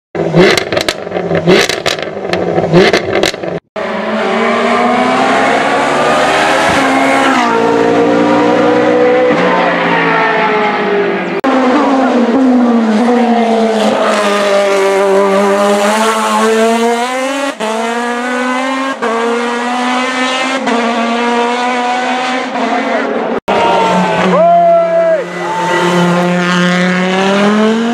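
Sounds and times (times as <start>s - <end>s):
race car engines revving: 0.2s - 27.9s.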